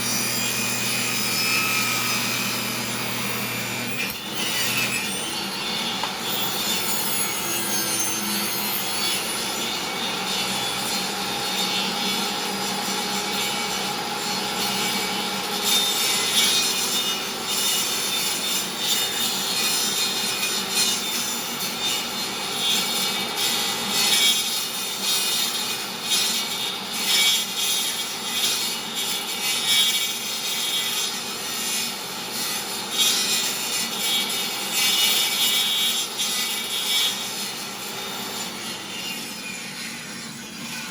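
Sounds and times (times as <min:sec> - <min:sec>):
table saw cutting wood: 0:00.0 - 0:40.9.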